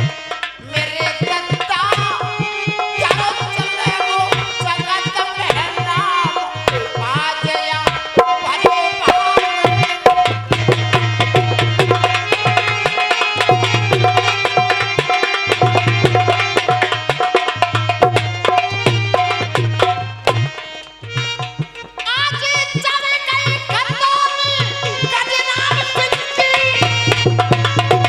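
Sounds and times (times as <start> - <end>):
hand drum rhythm: 0.0 - 28.0.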